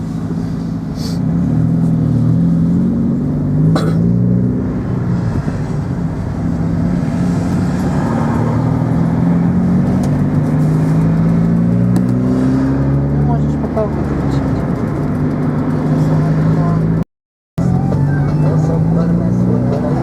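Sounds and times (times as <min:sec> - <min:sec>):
car engine running: 0:00.0 - 0:17.0, 0:17.6 - 0:20.0.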